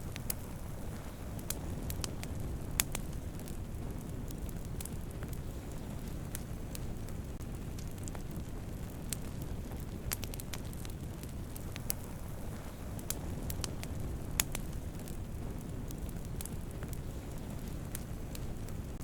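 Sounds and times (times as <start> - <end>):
fire crackling and popping: 0.0 - 19.0
wood fire rumbling: 0.0 - 19.0.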